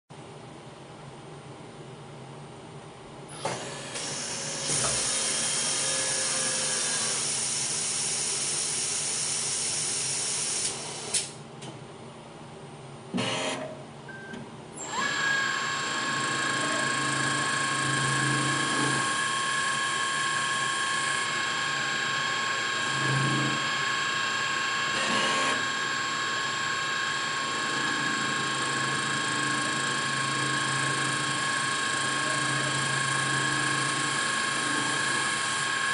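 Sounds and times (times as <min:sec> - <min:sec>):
valve seat machine cutting: 0:03.4 - 0:11.4, 0:14.8 - 0:35.9.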